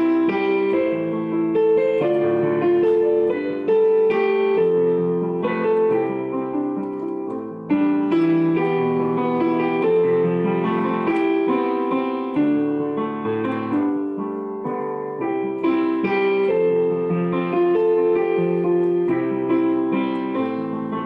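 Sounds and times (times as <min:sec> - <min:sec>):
digital piano chords: 0:00.0 - 0:21.0.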